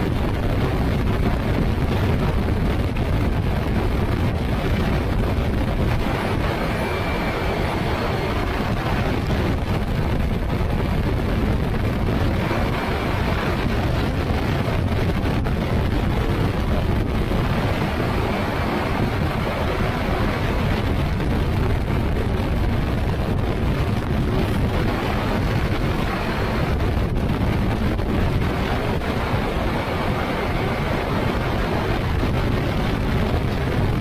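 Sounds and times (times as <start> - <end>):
engine and propeller running: 0.0 - 34.0
wind rush: 0.0 - 34.0.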